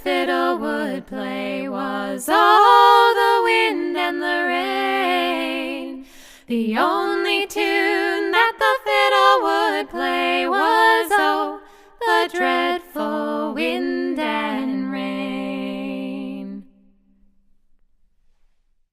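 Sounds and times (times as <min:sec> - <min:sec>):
women singing in harmony: 0:00.0 - 0:17.0.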